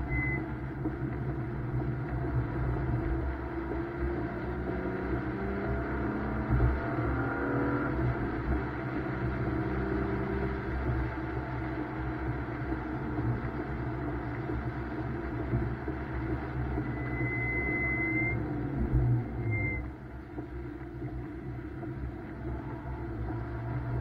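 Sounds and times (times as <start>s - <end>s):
car engine under hard driving: 0.0s - 24.0s
road and tyre noise: 0.0s - 24.0s.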